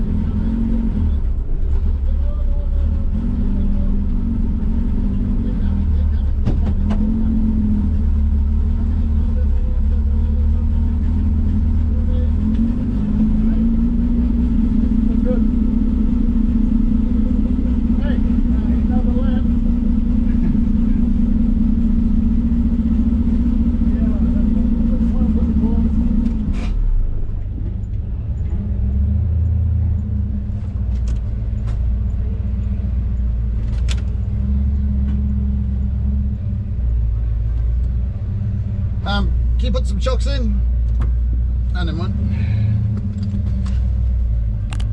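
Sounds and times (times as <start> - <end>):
car engine droning at low revs: 0.0 - 44.9.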